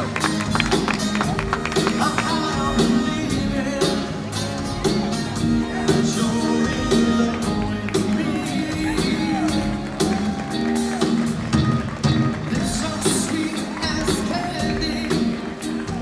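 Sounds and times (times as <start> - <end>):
drum beat: 0.0 - 16.0.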